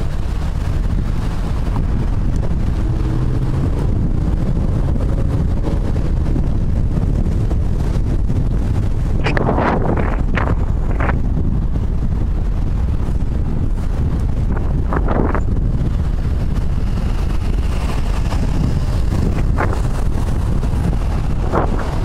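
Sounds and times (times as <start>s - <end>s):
street traffic: 0.0s - 22.0s
wind buffeting microphone: 0.0s - 22.0s.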